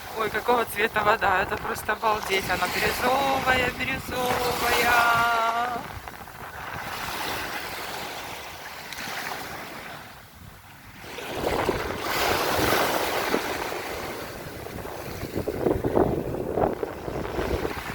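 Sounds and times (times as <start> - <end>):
small waves washing onto shore: 0.0 - 17.9
wind on microphone: 0.0 - 17.9.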